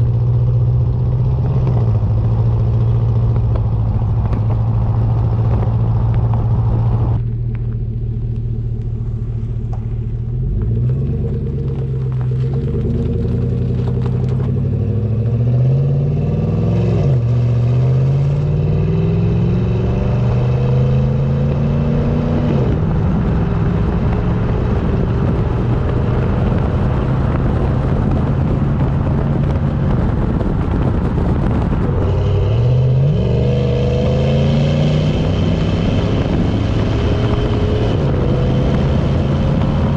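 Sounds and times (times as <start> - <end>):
truck engine accelerating: 0.0 - 39.9.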